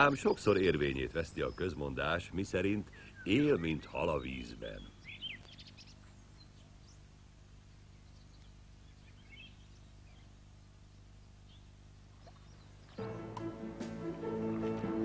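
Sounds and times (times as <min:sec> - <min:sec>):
faint bird chirps: 0:00.0 - 0:13.2
low steady hum: 0:00.0 - 0:15.0.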